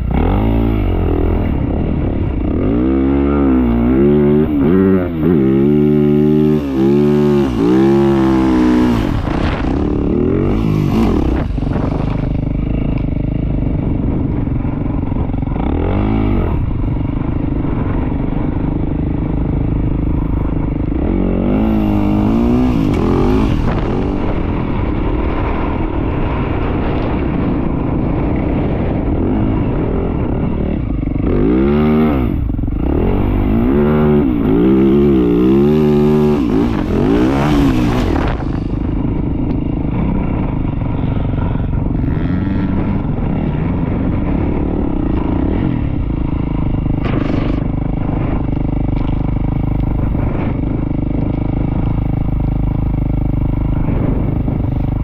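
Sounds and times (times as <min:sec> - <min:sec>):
motorcycle engine revving: 0:00.0 - 0:55.0
wind rumbling on microphone: 0:00.0 - 0:55.0.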